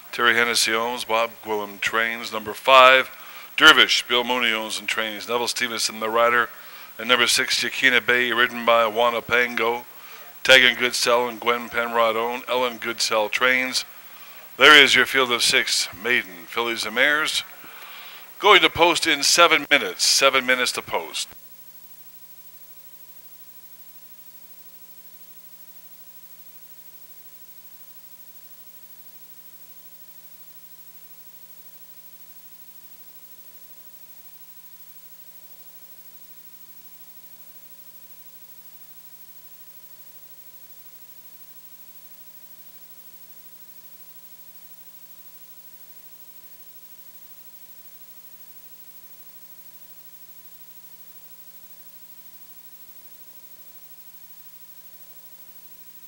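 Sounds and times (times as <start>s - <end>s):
constant hiss: 0.0s - 56.0s
electrical hum: 0.0s - 56.0s.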